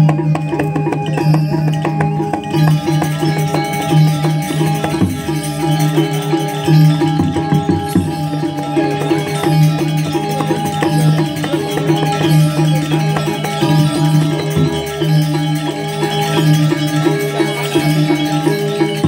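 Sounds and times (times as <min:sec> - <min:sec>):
ringing metal percussion: 0:00.0 - 0:19.0.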